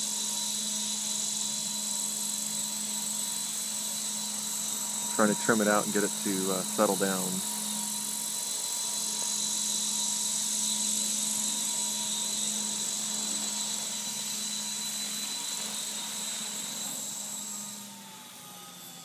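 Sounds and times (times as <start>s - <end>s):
rotor blades humming: 0.0s - 18.9s
rc helicopter motor whine: 0.0s - 19.0s.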